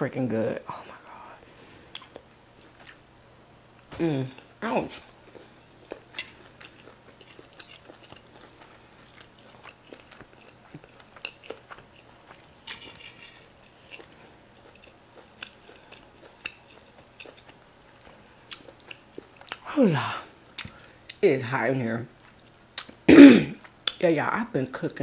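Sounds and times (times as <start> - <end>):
wet chewing sounds: 1.0 - 3.1, 3.8 - 21.2, 22.1 - 24.0.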